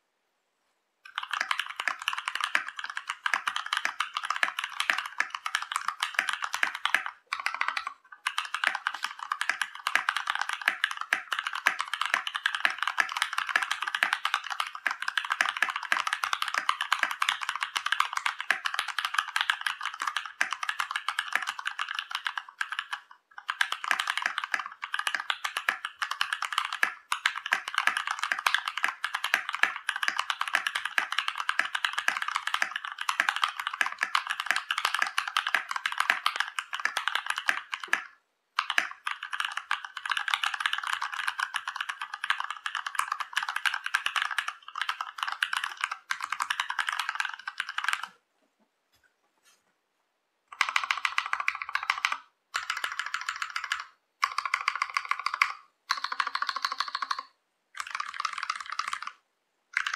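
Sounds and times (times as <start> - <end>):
mechanical keyboard typing: 1.1 - 48.2, 50.5 - 59.2.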